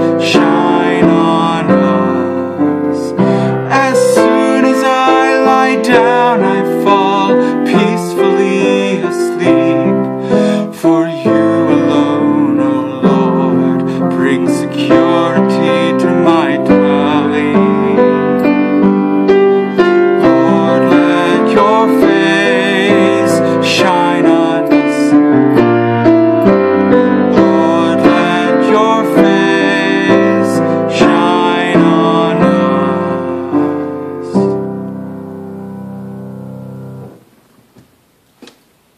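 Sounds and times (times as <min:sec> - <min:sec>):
piano playing: 0:00.0 - 0:37.5.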